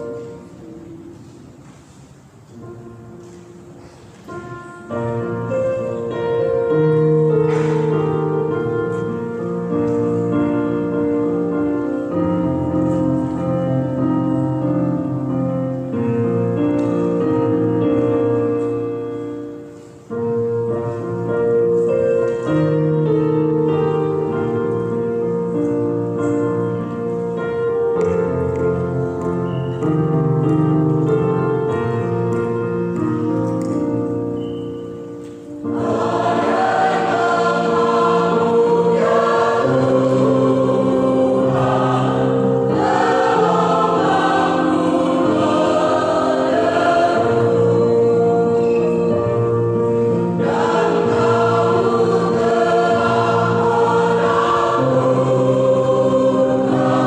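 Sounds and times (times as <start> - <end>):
church choir singing a hymn: 0.0 - 1.0, 4.8 - 29.9, 35.6 - 57.0
keyboard accompaniment: 0.0 - 57.0.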